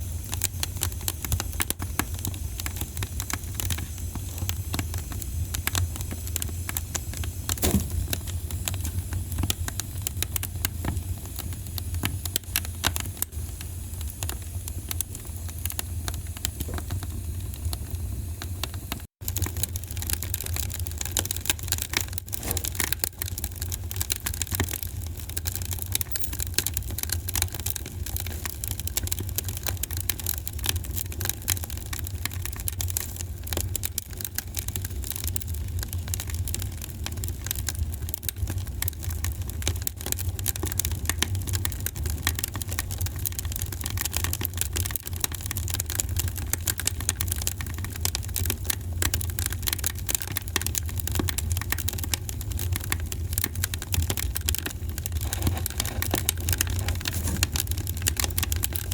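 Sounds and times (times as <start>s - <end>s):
low rumble of fire: 0.0s - 58.9s
wood fire crackling: 0.0s - 58.9s.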